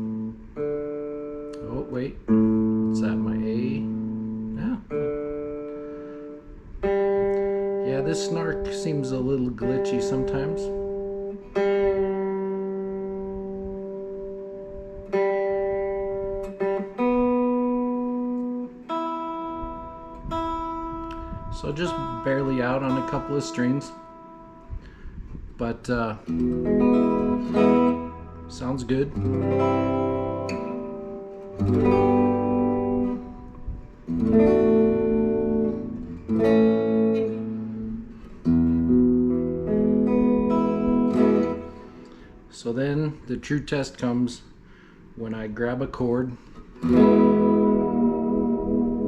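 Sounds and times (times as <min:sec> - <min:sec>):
guitar strings plucked: 0:00.0 - 0:43.1, 0:46.4 - 0:49.0.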